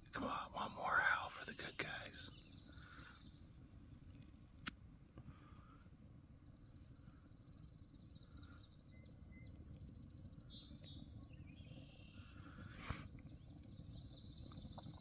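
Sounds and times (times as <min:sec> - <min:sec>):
outdoor background noise: 0:00.0 - 0:15.0
songbird trills: 0:00.1 - 0:04.7, 0:05.4 - 0:15.0.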